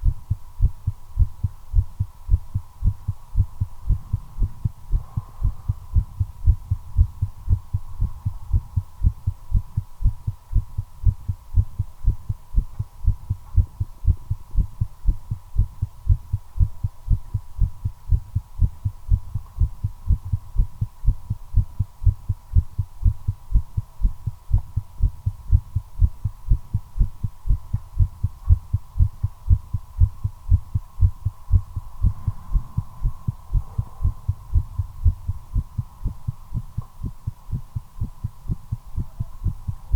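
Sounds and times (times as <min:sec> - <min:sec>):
fast heartbeat thumps: 0:00.0 - 0:39.9.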